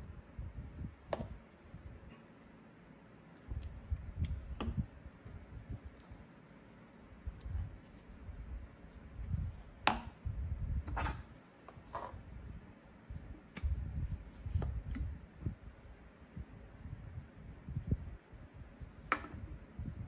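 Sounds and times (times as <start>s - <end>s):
low rumble of hands moving: 0.0s - 2.6s, 3.4s - 20.0s.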